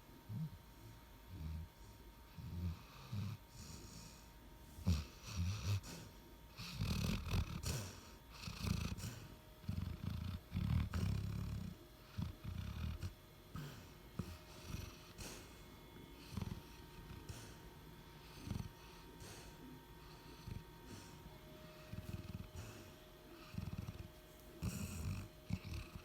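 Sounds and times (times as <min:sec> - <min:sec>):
dog snoring: 0:00.0 - 0:26.0.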